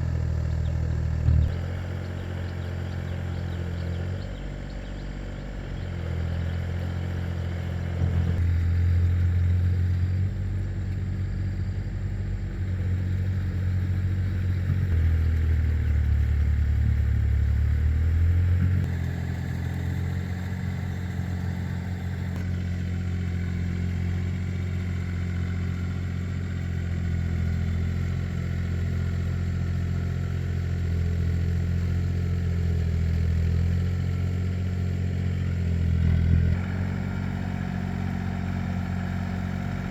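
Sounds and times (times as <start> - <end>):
tractor engine running with clatter: 0.0 - 39.9.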